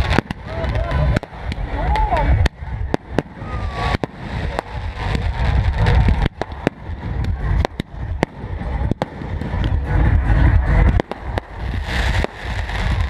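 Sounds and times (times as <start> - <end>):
firecrackers cracking: 0.0 - 13.0
low rumble: 0.0 - 13.0.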